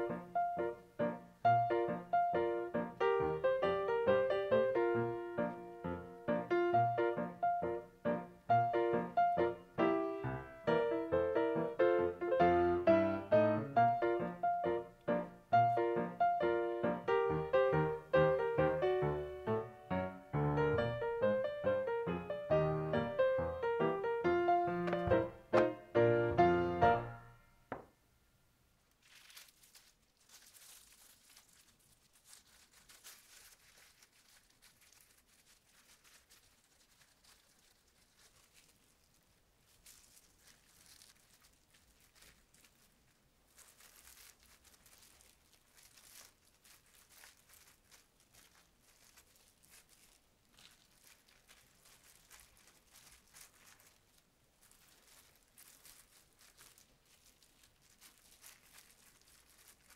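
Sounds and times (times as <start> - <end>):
plastic gloves crinkling: 0.0 - 59.9.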